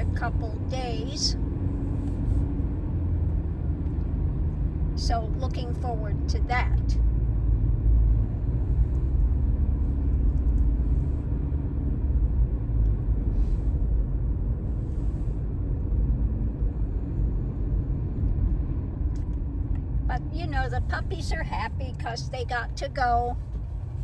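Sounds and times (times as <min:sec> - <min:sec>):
road rumble inside a car: 0:00.0 - 0:24.0.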